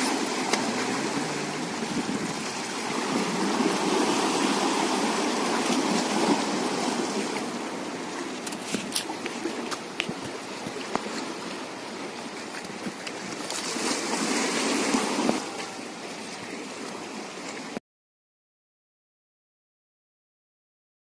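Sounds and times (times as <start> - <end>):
water lapping at shoreline: 0.0 - 17.8.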